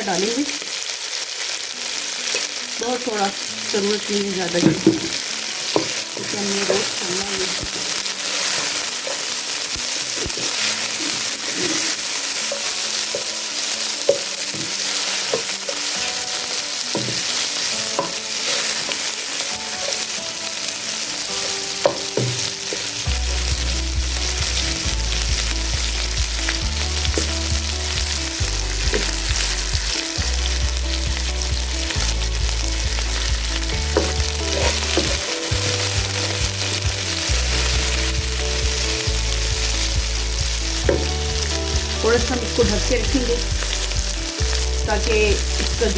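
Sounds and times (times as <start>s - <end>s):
chicken sizzling in oil: 0.0s - 45.9s.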